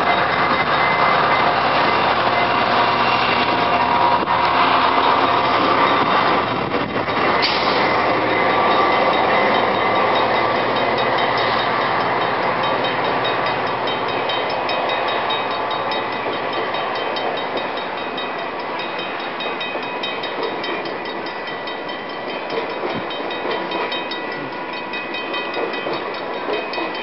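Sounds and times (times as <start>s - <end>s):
train wheels clattering on rails: 0.0s - 27.0s.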